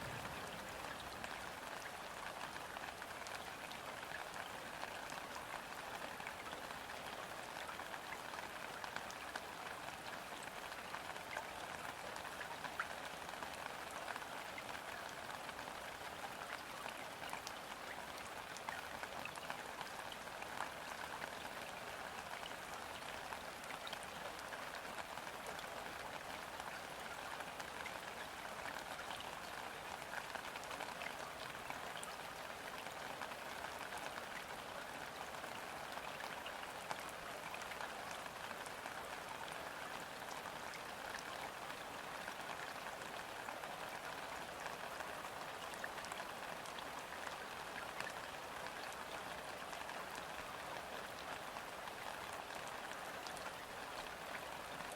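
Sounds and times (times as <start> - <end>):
rain falling on a river: 0.0 - 54.9.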